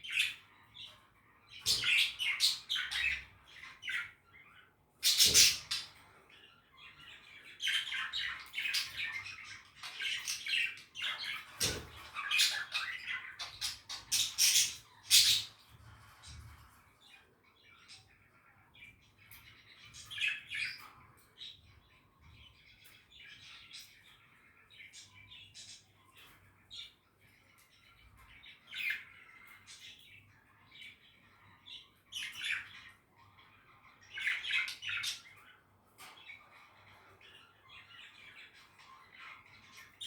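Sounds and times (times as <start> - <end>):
budgies chirping and chattering: 0.0 - 40.0.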